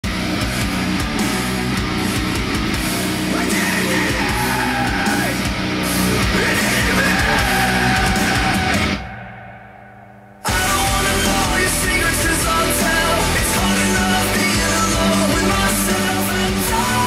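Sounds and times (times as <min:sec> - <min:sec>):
heavy rock music: 0:00.0 - 0:17.0.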